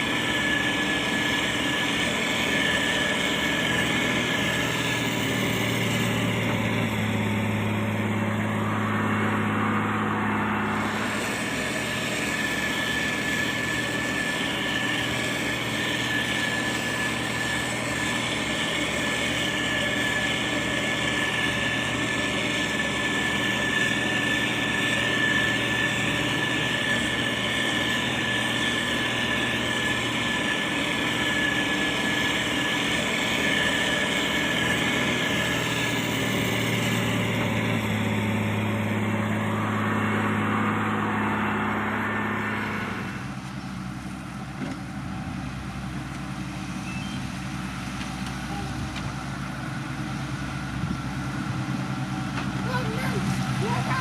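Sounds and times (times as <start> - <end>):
diesel engine running: 0.0 - 54.0
high whine: 0.0 - 54.0.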